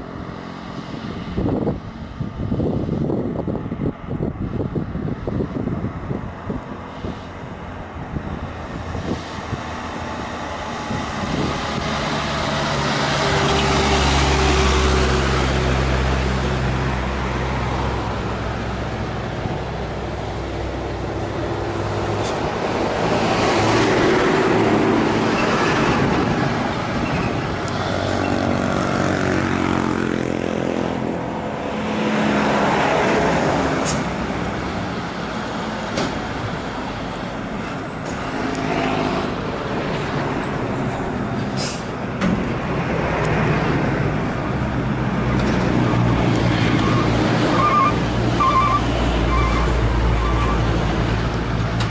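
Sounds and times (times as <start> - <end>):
truck diesel engine labouring: 0.0 - 51.9.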